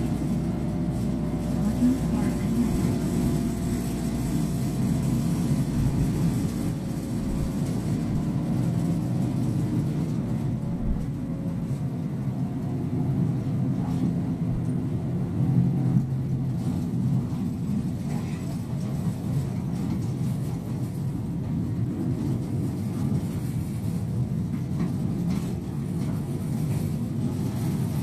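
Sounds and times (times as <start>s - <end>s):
diesel engine hum: 0.0s - 28.0s
road rumble: 0.0s - 28.0s.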